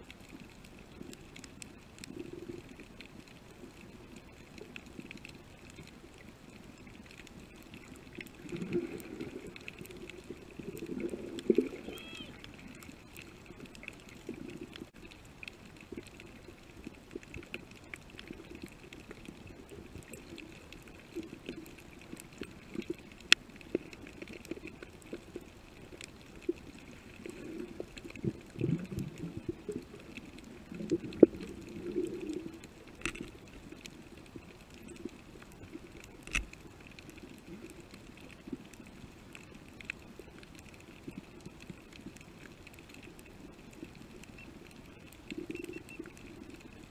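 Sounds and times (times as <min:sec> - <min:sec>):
underwater hum and hiss: 0:00.0 - 0:46.9.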